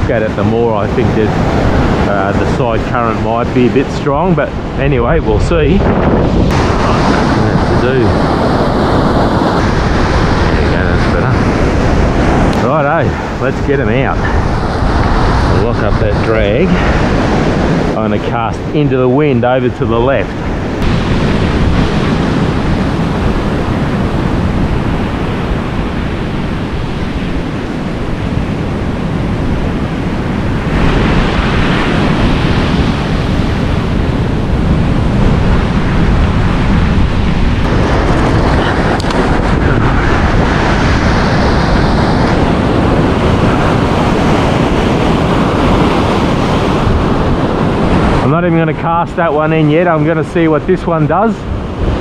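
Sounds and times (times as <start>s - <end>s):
surf washing ashore: 0.0s - 52.0s
wind buffeting microphone: 0.0s - 52.0s.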